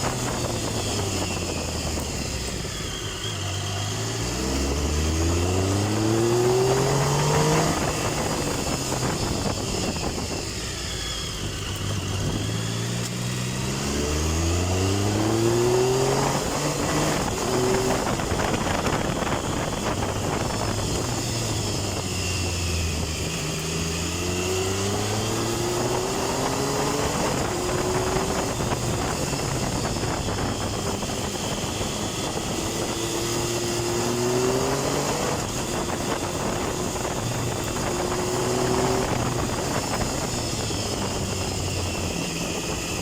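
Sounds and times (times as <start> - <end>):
motorcycle engine accelerating: 0.0 - 43.0
wind and road noise: 0.0 - 43.0.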